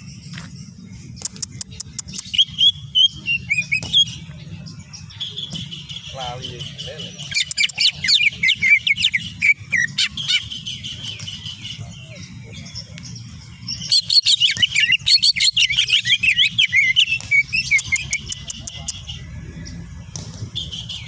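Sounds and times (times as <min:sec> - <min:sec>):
bird singing whistled notes: 0:00.0 - 0:19.9
steady low hum: 0:00.0 - 0:21.0.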